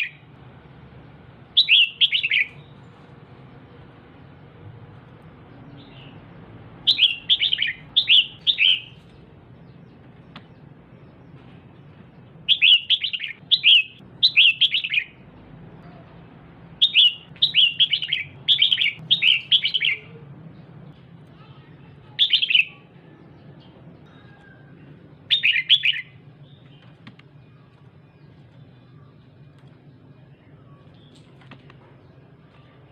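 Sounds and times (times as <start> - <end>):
bird chirping: 0.0 - 0.3, 1.4 - 32.9.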